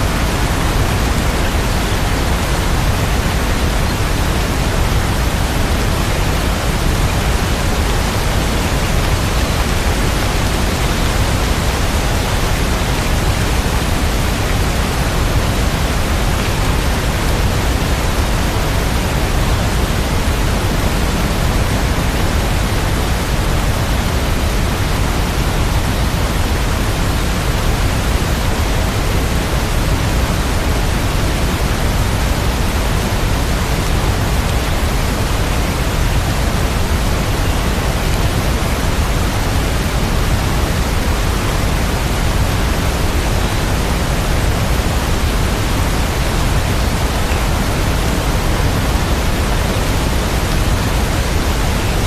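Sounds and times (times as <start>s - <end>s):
dense rain hiss: 0.0s - 52.0s.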